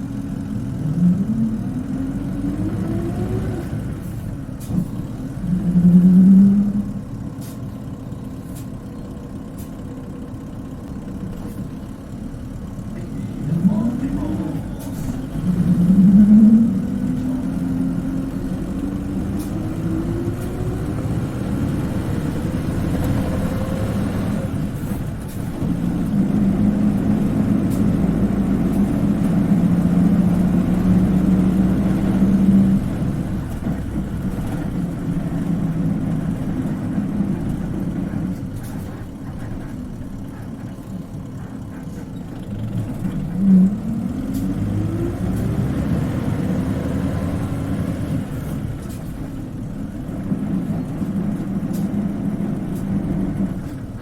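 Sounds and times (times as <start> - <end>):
bus engine accelerating: 0.0 - 54.0.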